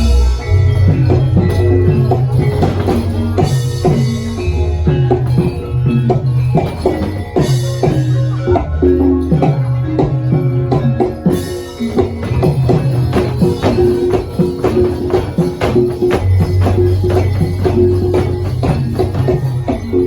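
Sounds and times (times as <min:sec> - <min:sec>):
gamelan ensemble playing: 0:00.0 - 0:20.0.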